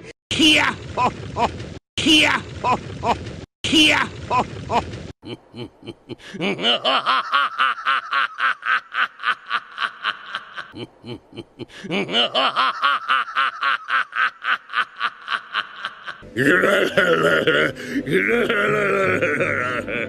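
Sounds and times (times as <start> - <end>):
man laughing: 2.2 - 3.2, 4.3 - 20.0.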